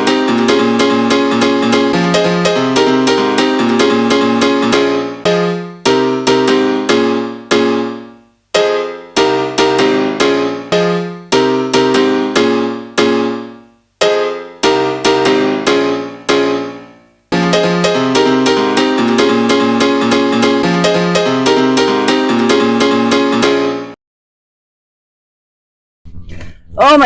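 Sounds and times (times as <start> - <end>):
piano chords ringing: 0.0 - 24.0.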